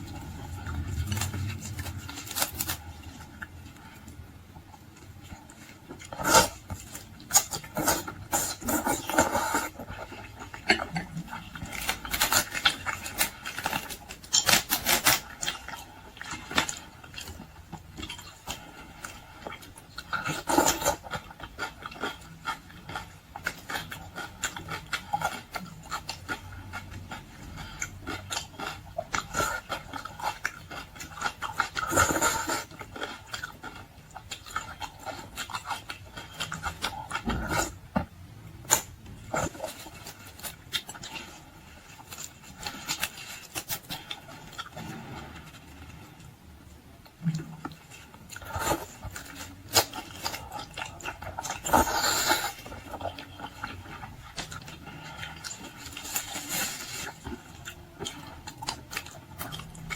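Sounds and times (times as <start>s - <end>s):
wet chewing: 0.0s - 59.9s.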